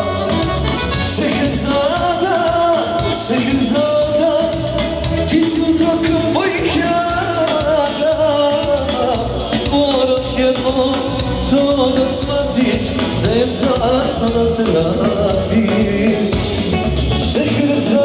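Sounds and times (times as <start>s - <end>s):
dance music with steady beat: 0.0s - 18.0s.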